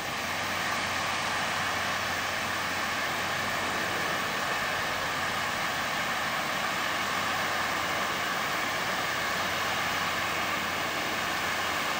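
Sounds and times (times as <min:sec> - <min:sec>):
fountain spray hissing: 0:00.0 - 0:11.9.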